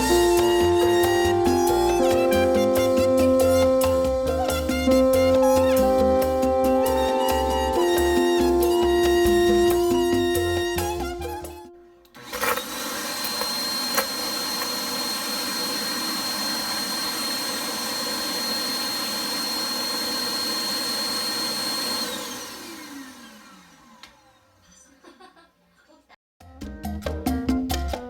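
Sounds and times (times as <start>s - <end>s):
vacuum motor whine: 0.0s - 11.3s, 12.1s - 24.6s.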